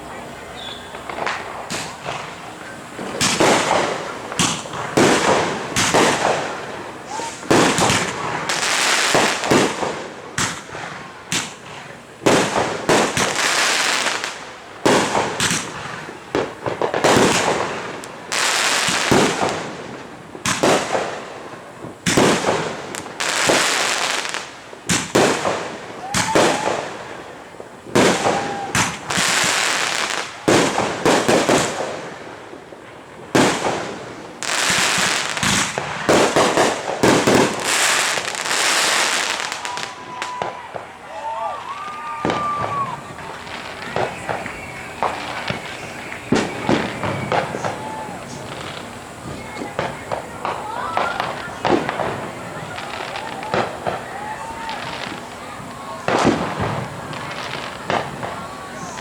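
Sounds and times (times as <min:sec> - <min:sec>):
fireworks bangs and booms: 0:00.0 - 0:59.0
fireworks whistles: 0:00.0 - 0:59.0.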